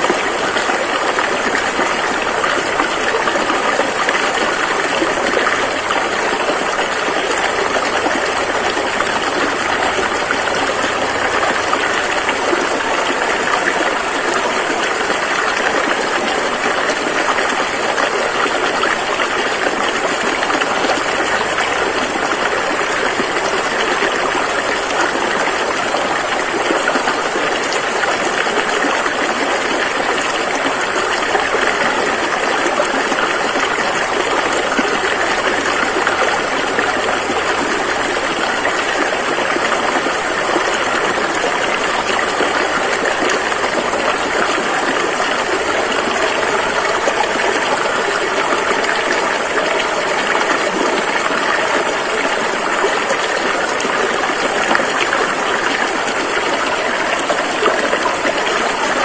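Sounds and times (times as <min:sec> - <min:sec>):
rushing river water: 0:00.0 - 0:59.0.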